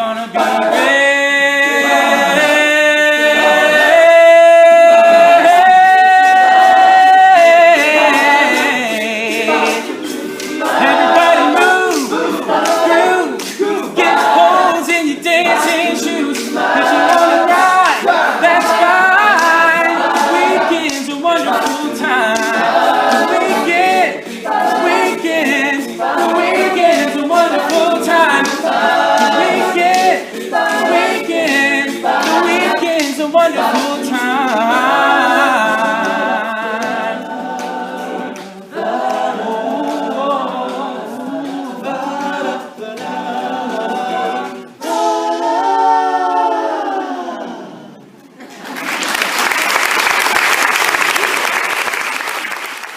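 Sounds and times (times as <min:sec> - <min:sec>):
sharp rhythmic beat: 0:00.0 - 0:45.7
male group singing in harmony: 0:00.0 - 0:48.0.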